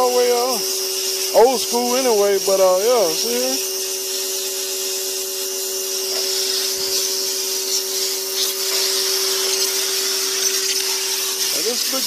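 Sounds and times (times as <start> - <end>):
pressure washer humming: 0.0 - 12.0
water jet hissing on metal: 0.0 - 12.0.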